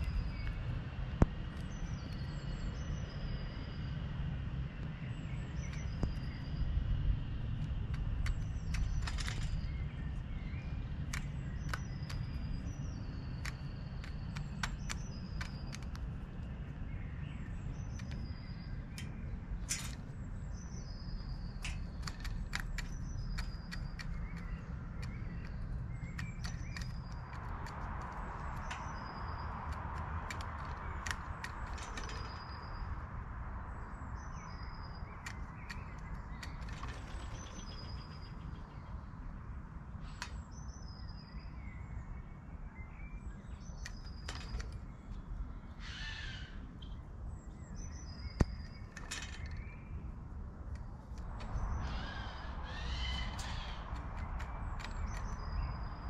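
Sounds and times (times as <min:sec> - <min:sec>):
small bird chirping: 0:00.0 - 0:56.0
steady low rumble: 0:00.0 - 0:56.0.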